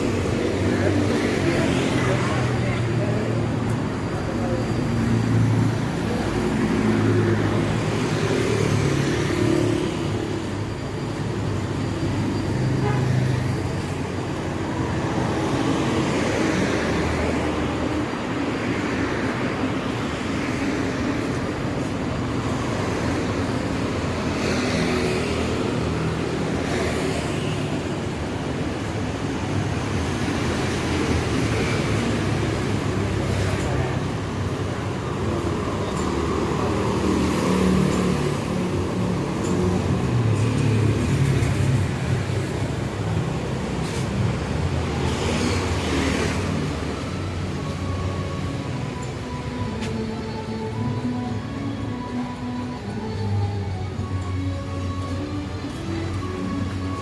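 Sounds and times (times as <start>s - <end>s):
road noise and engine hum: 0.0s - 57.0s
vehicles passing close by: 0.0s - 57.0s.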